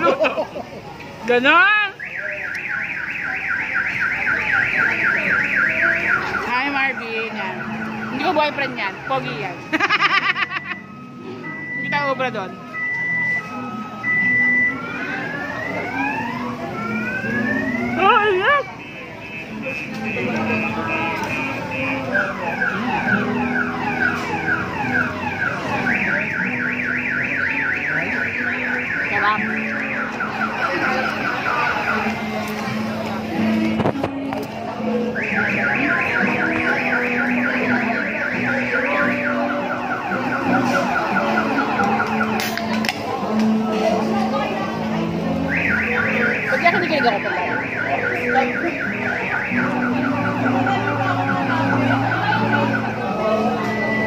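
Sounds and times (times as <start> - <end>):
car alarm whooping and warbling: 1.5 - 33.9, 34.8 - 42.8, 44.6 - 54.0.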